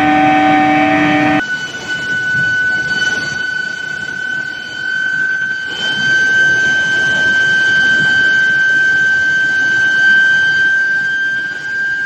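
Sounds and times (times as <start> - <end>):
furnace high-pitched whine: 0.0 - 12.0.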